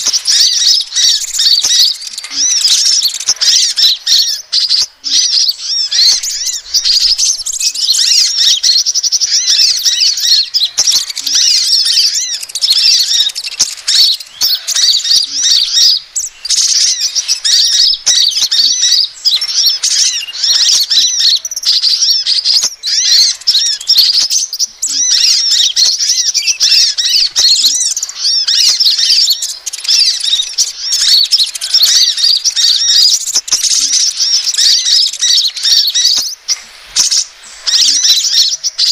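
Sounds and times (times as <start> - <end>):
sunbird chirps and twitters: 0.0 - 38.9.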